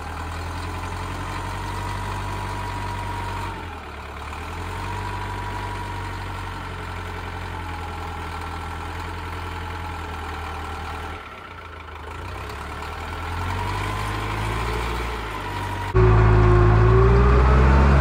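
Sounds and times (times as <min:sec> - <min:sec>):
wheel loader diesel engine: 0:00.0 - 0:18.0.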